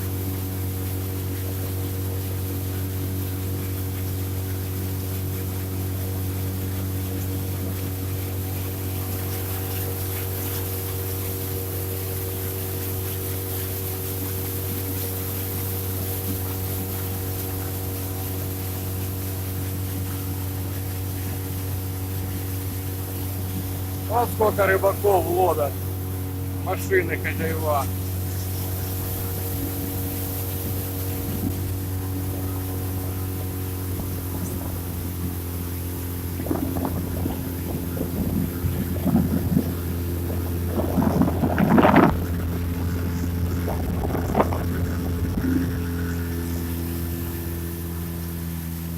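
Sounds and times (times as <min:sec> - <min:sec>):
boat engine droning: 0:00.0 - 0:48.9
water hissing: 0:00.0 - 0:48.9
wind: 0:00.0 - 0:48.9.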